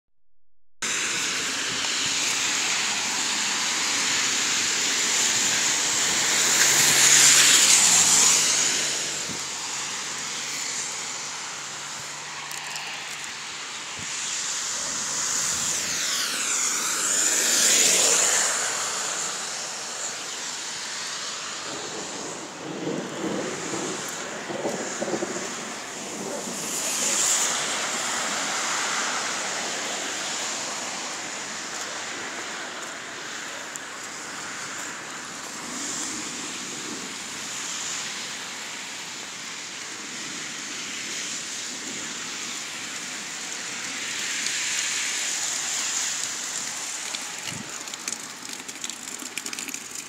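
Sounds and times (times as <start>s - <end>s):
outdoor rushing hiss: 0.8s - 49.1s
vehicles passing with whoosh: 0.8s - 50.0s.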